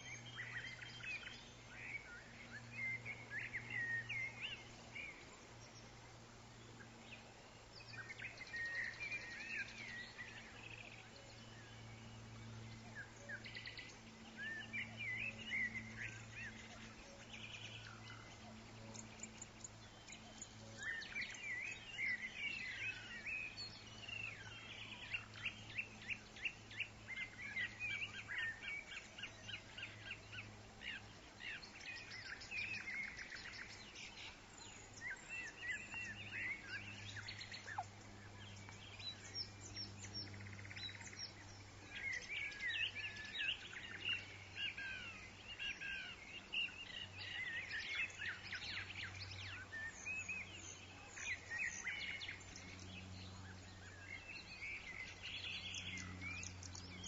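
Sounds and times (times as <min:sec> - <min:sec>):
faint low hum: 0:00.0 - 0:57.0
songbirds chirping and singing: 0:00.0 - 0:57.0.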